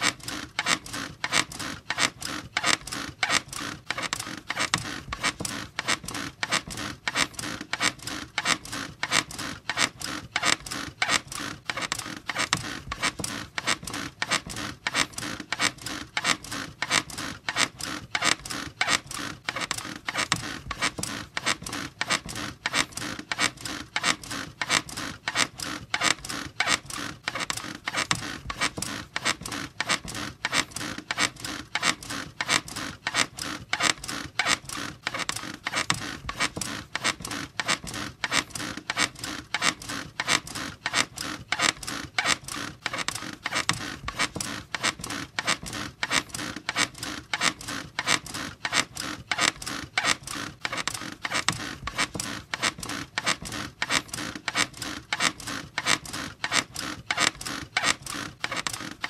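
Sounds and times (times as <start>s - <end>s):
bed squeaking rhythmically: 0.0s - 59.0s.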